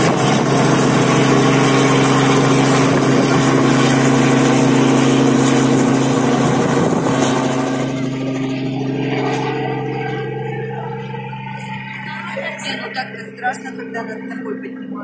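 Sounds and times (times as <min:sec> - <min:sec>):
helicopter droning: 0:00.0 - 0:15.0.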